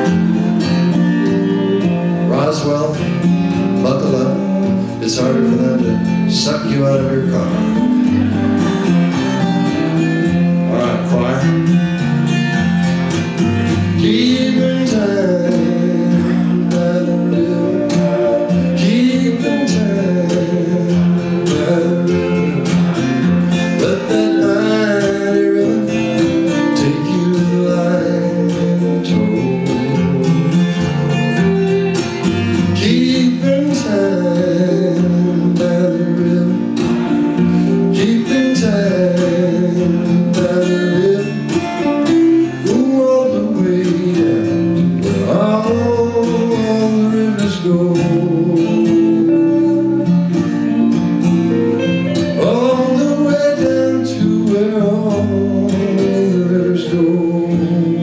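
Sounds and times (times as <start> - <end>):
man singing: 0.0 - 12.6, 13.4 - 58.0
strummed acoustic guitar: 0.0 - 58.0.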